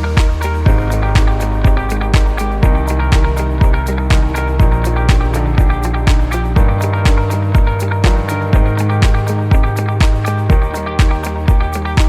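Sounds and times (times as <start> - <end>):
music with kick drum beat: 0.0 - 12.0
plucked guitar notes: 0.0 - 12.0.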